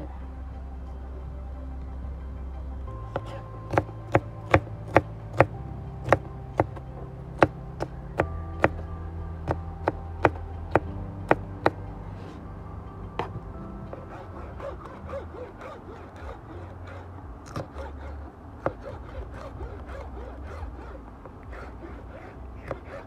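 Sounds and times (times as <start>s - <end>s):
background music with bass: 0.0s - 23.0s.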